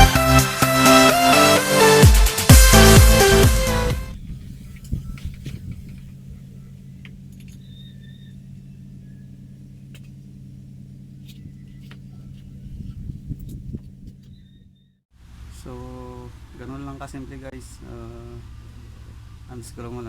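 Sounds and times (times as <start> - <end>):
scooter engine idling: 2.0 - 20.0.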